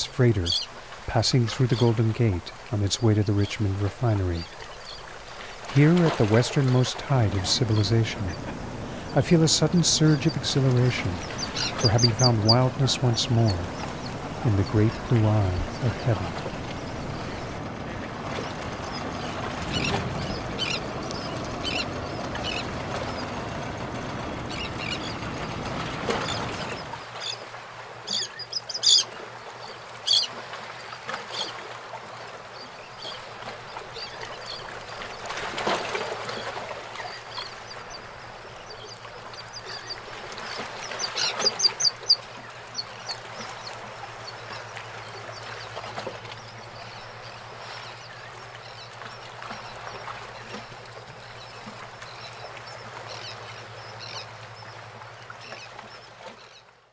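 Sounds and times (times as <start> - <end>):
seabirds calling: 0.0 - 17.6, 18.2 - 56.7
water lapping around pilings: 0.0 - 56.9.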